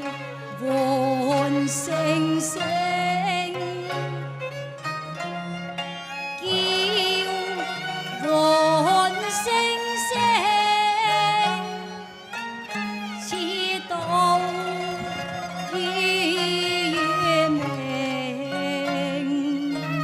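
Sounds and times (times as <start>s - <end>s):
opera ensemble with bowed strings: 0.0s - 20.0s.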